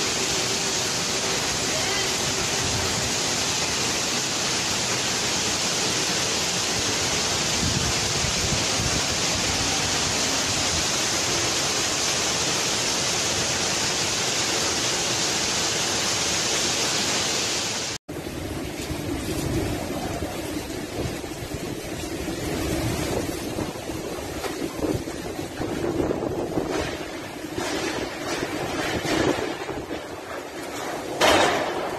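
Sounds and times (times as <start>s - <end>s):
cyclone-force wind: 0.0s - 31.9s
heavy rain: 0.0s - 31.9s.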